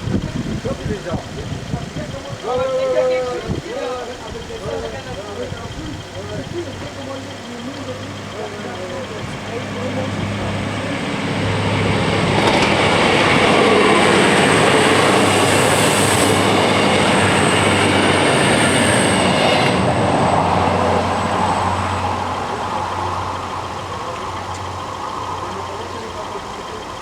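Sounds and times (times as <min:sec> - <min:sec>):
train wheels clattering on rails: 0:00.0 - 0:27.0.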